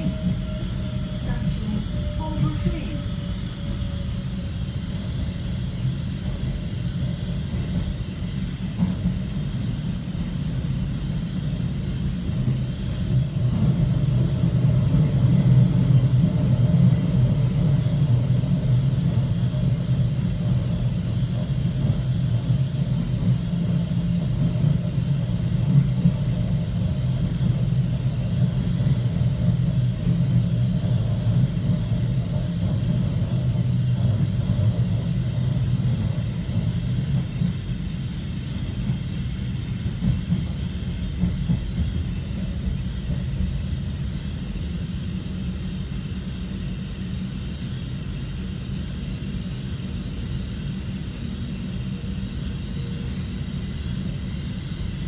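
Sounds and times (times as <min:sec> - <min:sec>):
train running rumble: 0:00.0 - 0:55.0.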